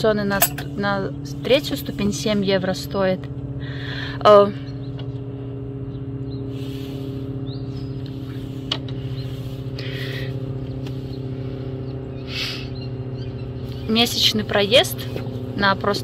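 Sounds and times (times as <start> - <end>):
mechanical hum with drone: 0.0 - 16.0.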